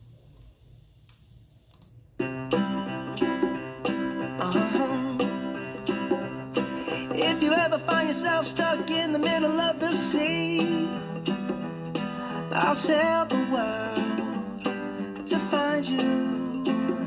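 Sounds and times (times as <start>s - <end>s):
song with strummed guitar: 2.2s - 17.0s.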